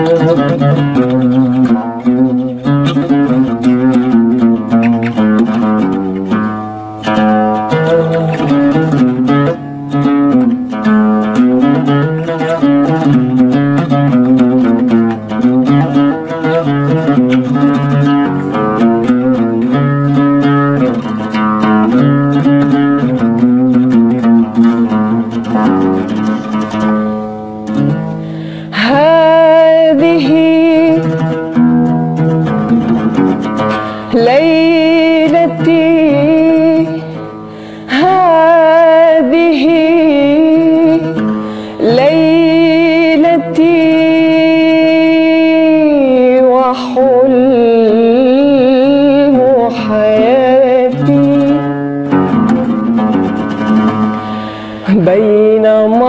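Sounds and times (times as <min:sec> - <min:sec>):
woman singing with vibrato: 0:00.0 - 0:26.4, 0:27.8 - 0:52.7, 0:53.3 - 0:56.0
oud plucked with a plectrum: 0:00.0 - 0:56.0.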